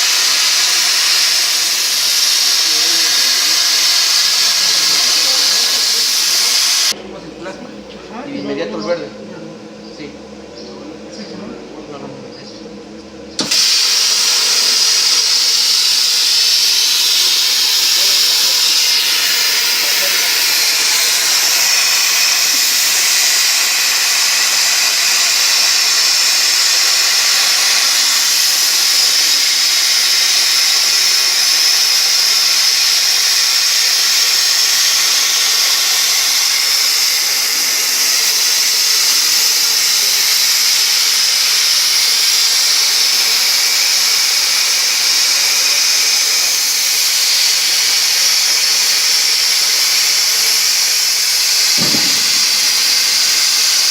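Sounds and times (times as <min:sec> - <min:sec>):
plasma cutter hissing: 0:00.0 - 0:07.0, 0:13.4 - 0:53.9.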